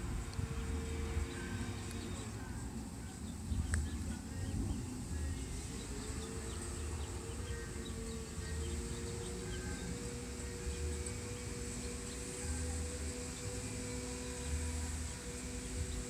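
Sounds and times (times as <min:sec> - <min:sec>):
faint distant hum: 0:00.0 - 0:16.0
wind rumble on microphone: 0:00.0 - 0:16.0.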